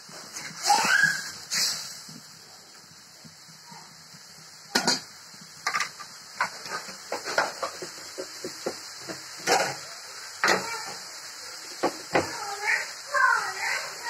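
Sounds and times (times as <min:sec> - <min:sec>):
paste frying in oil: 0:00.0 - 0:14.0.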